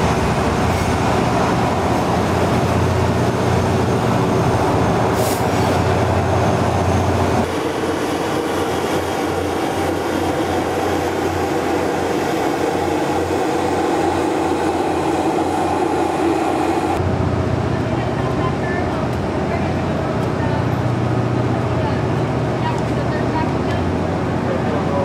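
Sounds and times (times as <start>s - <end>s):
rolling rail noise: 0.0s - 25.0s.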